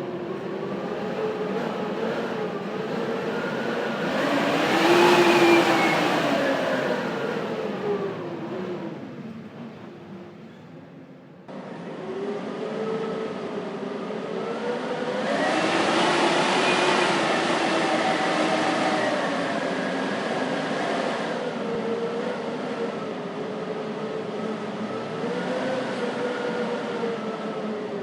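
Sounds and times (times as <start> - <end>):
storm wind howling and whistling: 0.0 - 28.0.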